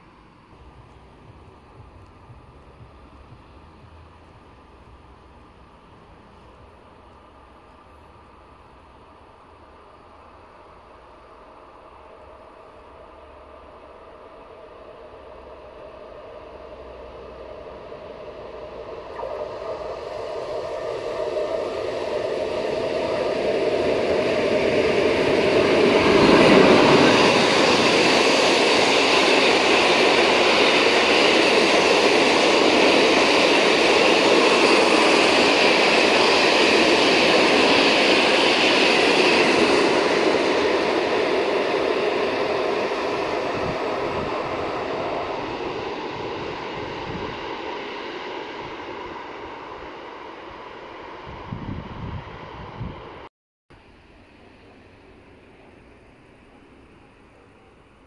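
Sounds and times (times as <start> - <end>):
freight train rumbling and rattling: 0.0 - 53.3.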